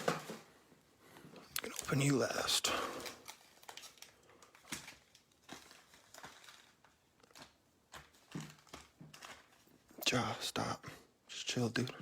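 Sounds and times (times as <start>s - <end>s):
card packs and wrappers rustling: 0.0s - 10.8s.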